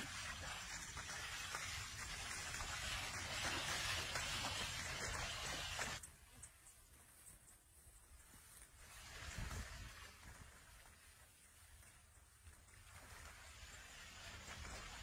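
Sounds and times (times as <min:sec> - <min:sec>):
muddy water sloshing: 0:00.0 - 0:15.0.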